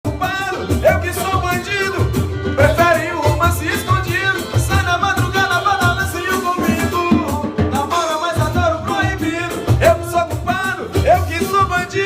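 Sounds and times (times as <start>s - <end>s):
live band playing samba music: 0.0s - 12.0s.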